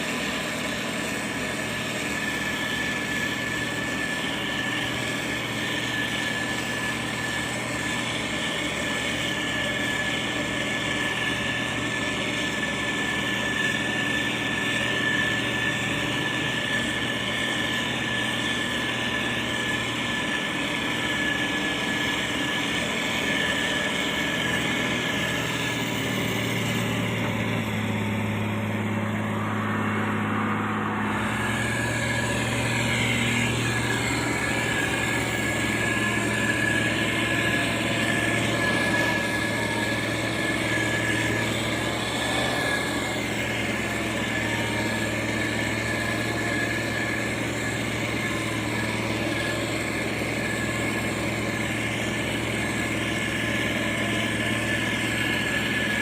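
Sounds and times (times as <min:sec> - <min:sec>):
heavy machinery diesel engines: 0:00.0 - 0:56.0
high-pitched whine: 0:00.0 - 0:56.0.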